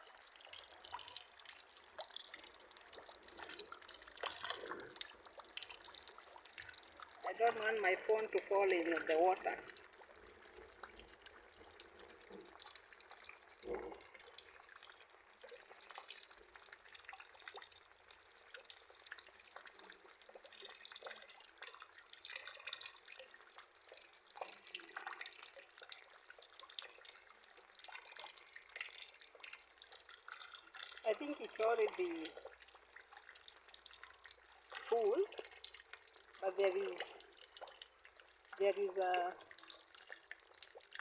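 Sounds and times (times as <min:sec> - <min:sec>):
rain dripping into container: 0:00.0 - 0:41.0.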